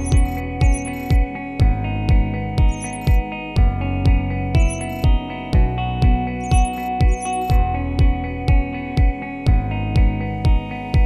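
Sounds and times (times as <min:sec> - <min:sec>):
music with plucked-string melody: 0:00.0 - 0:11.0.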